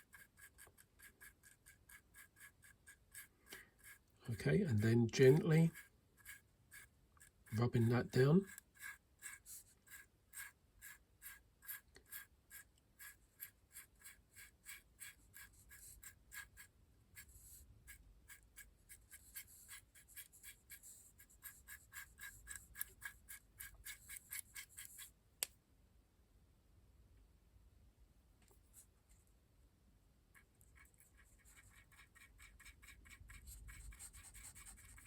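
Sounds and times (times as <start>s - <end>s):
stiff brush scratchy strokes: 0.0s - 25.2s, 30.4s - 35.0s.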